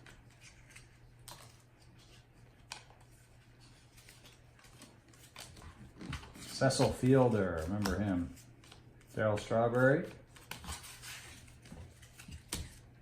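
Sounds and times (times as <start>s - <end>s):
trading cards clicking and rustling: 0.0s - 13.0s.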